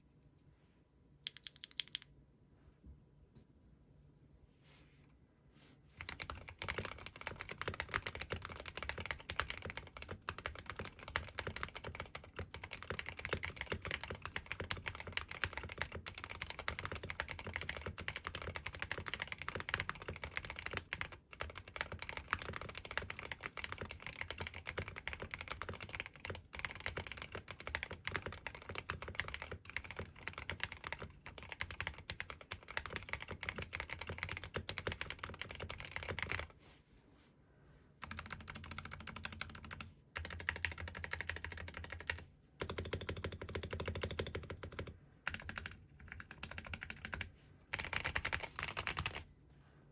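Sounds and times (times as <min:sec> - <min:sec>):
fast typing on mechanical keyboard: 0:06.0 - 0:36.5, 0:38.0 - 0:49.2.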